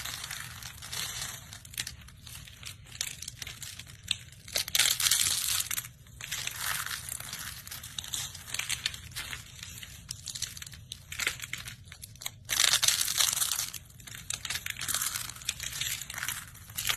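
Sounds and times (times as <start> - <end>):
crisp crinkling and crunching: 0.0 - 16.9.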